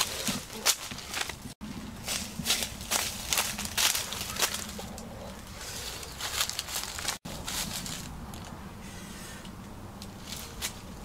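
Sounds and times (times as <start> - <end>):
dry leaves crackling and rustling: 0.0 - 8.6, 10.0 - 11.0.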